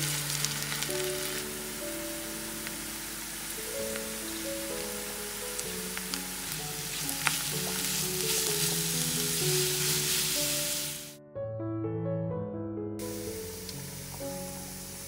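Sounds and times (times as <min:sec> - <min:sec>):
vegetables sizzling in oil: 0:00.0 - 0:11.2, 0:13.0 - 0:15.0
background music: 0:00.0 - 0:15.0.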